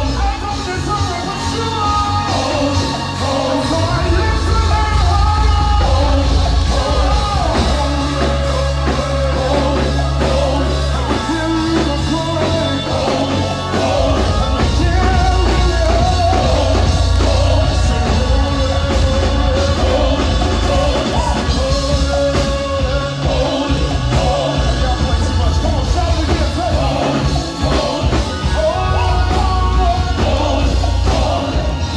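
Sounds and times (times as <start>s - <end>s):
heavy bass: 0.0s - 31.9s
singers over amplified worship music: 0.0s - 31.9s.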